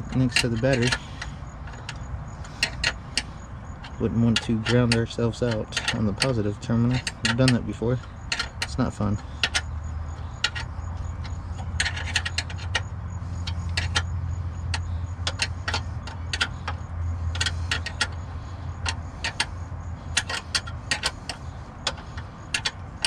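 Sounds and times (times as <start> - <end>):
sharp metallic clicks: 0.0 - 23.0
steady low hum: 0.0 - 23.0.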